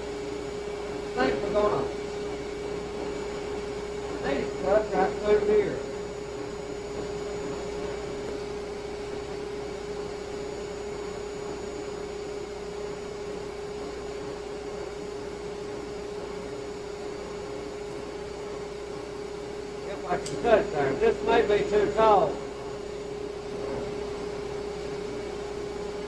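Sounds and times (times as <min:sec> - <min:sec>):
shop vacuum running: 0:00.0 - 0:26.0.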